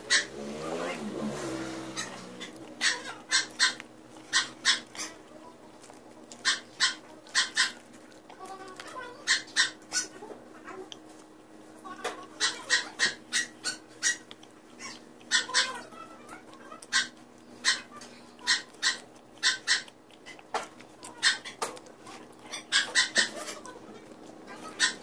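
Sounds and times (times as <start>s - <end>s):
chewing with wet lip smacks: 2.0s - 11.4s, 12.3s - 25.0s.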